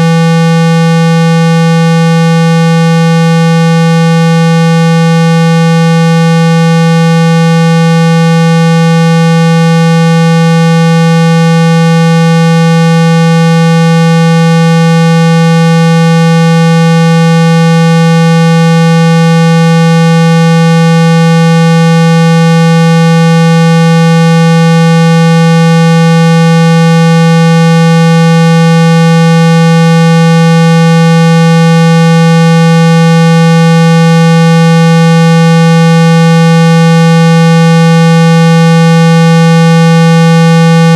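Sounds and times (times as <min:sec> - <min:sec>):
loud steady low tone: 0:00.0 - 0:40.9.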